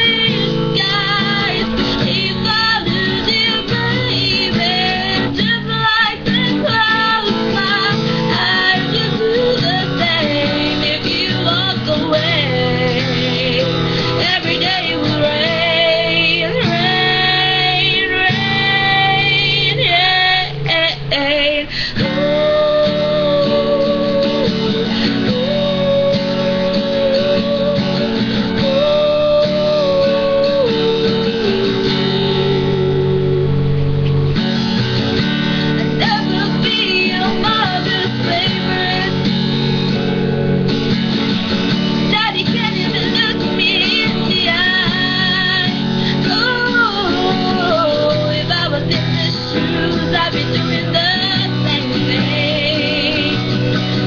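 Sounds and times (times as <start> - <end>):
woman singing pop ballad: 0.0 - 33.6, 35.6 - 40.1, 41.9 - 54.0
guitar accompaniment: 0.0 - 54.0.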